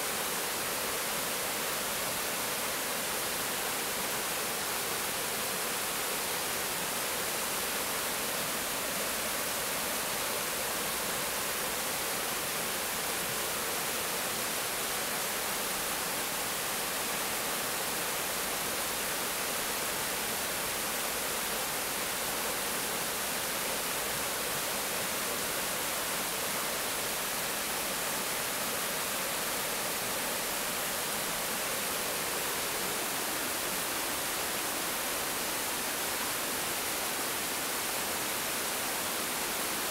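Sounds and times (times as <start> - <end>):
water rushing down river cascade: 0.0 - 39.9.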